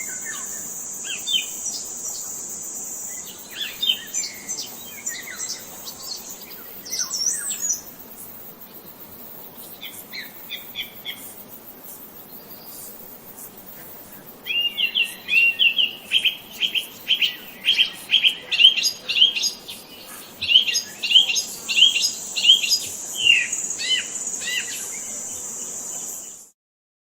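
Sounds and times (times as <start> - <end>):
songbird chirping: 0.0 - 11.4, 14.0 - 26.5.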